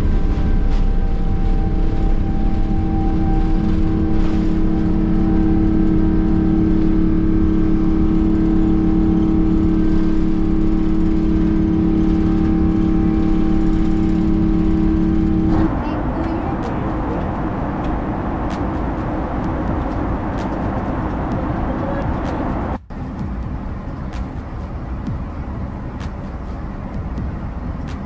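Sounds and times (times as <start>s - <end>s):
jet engines rumbling in cabin: 0.0s - 28.0s
steady engine hum: 0.0s - 28.0s.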